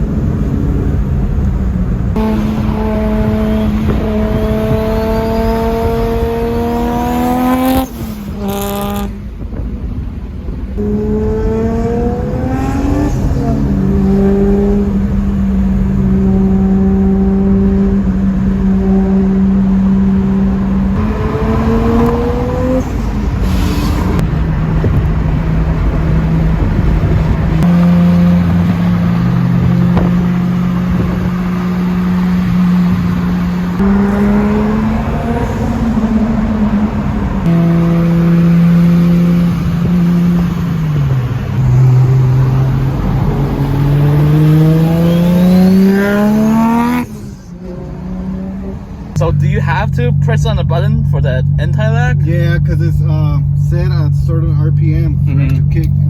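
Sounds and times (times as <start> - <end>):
car engine under load: 0.0 - 56.0.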